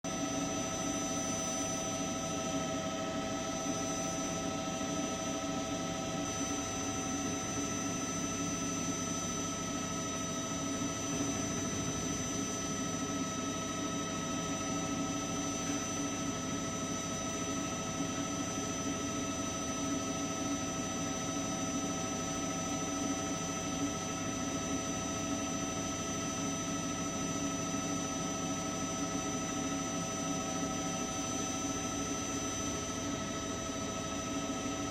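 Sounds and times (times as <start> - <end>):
helicopter turbine engine whine: 0.0 - 34.9.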